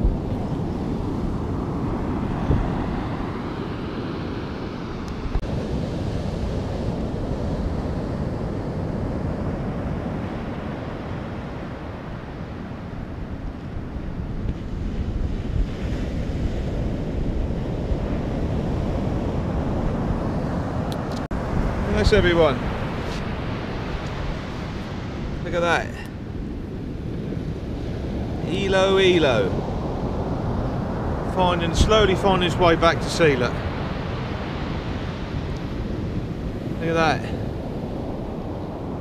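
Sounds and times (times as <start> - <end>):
sea surf washing onto beach: 0.0 - 39.0
wind buffeting microphone: 0.0 - 39.0.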